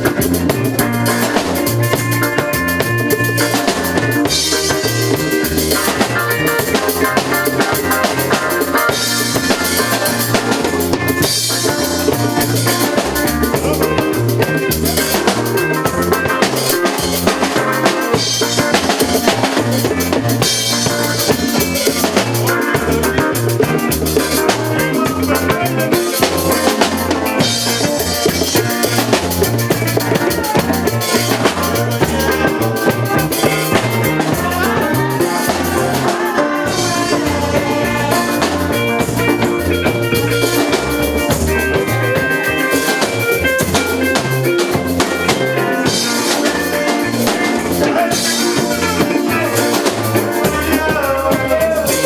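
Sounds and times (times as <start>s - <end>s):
bass and pitched instruments: 0.0s - 52.0s
drum kit beat: 0.0s - 52.0s.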